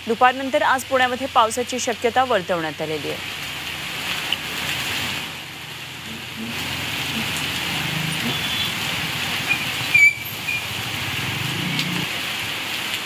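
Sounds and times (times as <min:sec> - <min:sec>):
rain hiss: 0:00.0 - 0:13.0
street traffic: 0:00.0 - 0:13.0
motorcycles driving through water: 0:00.6 - 0:13.0.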